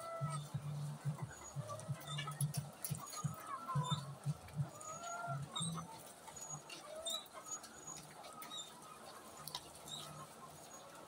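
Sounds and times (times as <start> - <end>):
hens clucking and calling: 0.0 - 11.0.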